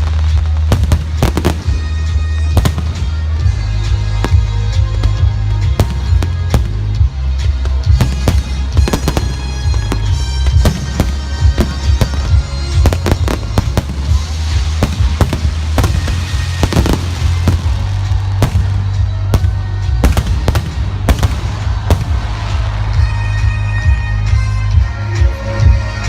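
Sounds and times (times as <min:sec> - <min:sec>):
fireworks bangs and crackles: 0:00.0 - 0:24.2
loud music with heavy bass: 0:00.0 - 0:26.0.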